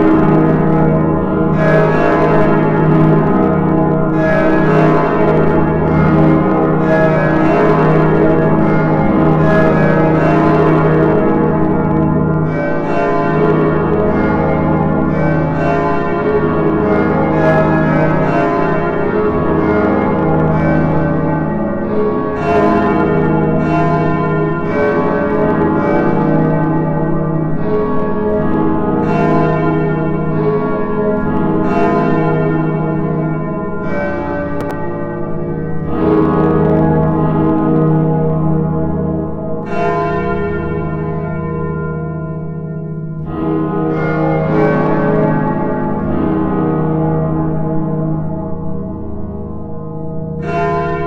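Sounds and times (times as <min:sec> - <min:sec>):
church bells pealing: 0:00.0 - 0:51.0.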